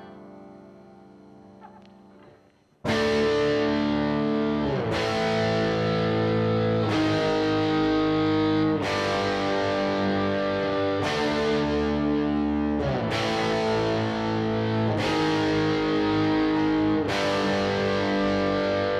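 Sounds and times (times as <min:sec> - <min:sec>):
distorted electric guitar chords: 0:00.0 - 0:18.9.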